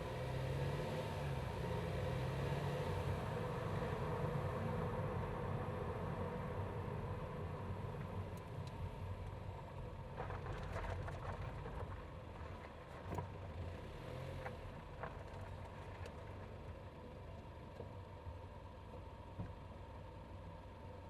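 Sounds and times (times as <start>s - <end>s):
car engine running at low revs: 0.0s - 21.0s.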